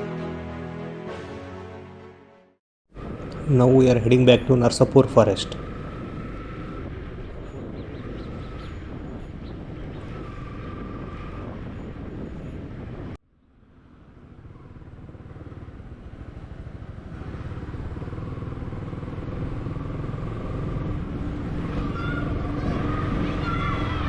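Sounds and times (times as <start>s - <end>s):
road noise: 0.0s - 24.0s
motorcycle engine: 2.9s - 24.0s.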